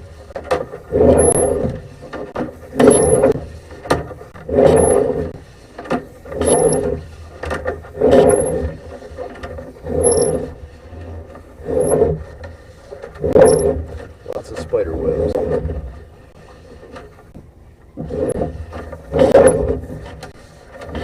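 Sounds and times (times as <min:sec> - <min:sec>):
cable scraping in drain: 0:00.0 - 0:21.0.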